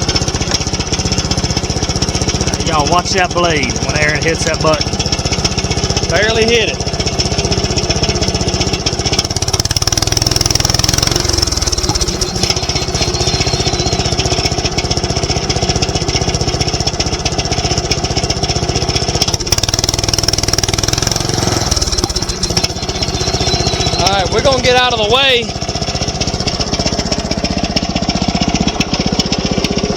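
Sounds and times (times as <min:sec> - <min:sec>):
sawmill engine idling: 0:00.0 - 0:29.9.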